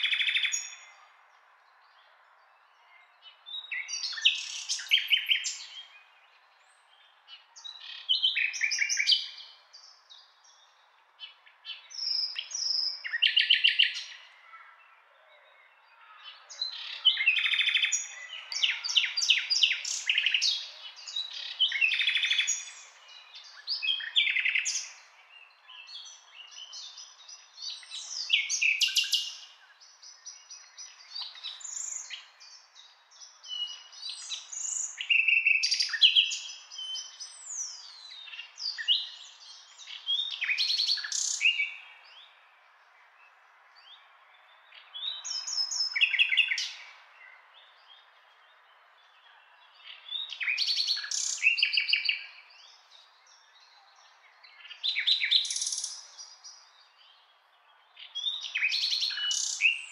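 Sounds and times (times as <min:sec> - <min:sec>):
nightingale singing: 0:00.0 - 0:01.2, 0:02.6 - 0:14.4, 0:15.2 - 0:43.2, 0:43.8 - 0:59.9.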